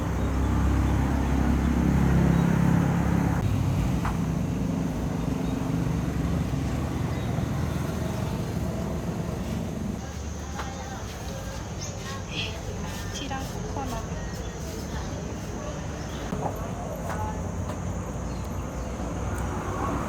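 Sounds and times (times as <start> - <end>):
vehicle engine running: 0.0 - 11.1, 13.6 - 20.0.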